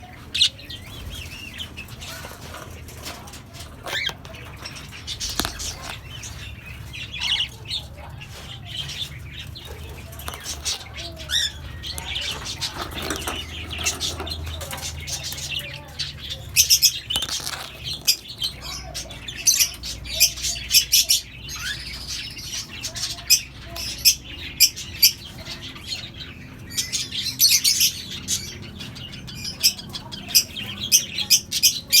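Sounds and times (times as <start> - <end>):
budgerigar chicks cheeping: 0.0 - 32.0.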